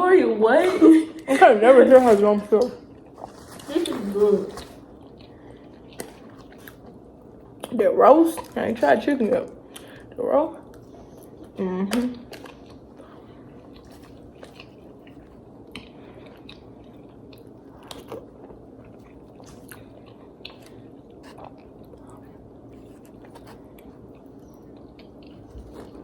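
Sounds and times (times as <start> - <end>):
person chewing food: 1.9 - 8.8, 9.5 - 26.0.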